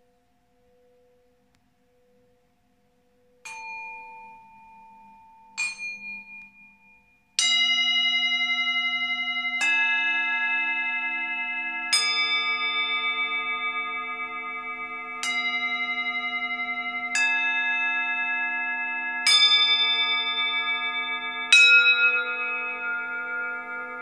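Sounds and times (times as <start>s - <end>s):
singing bowls struck with mallet: 3.4s - 24.0s.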